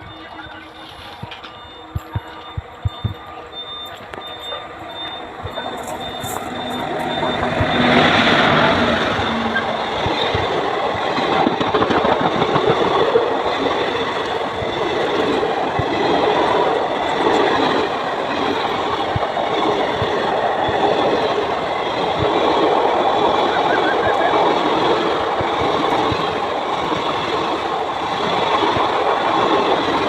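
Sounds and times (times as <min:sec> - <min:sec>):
train wheels clattering over rails: 0:01.3 - 0:30.0.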